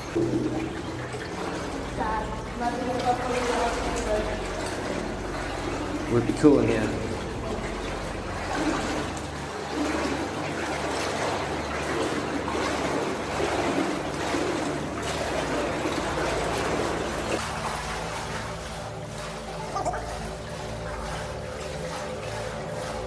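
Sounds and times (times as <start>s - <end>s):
people wading through water: 0.0s - 23.0s.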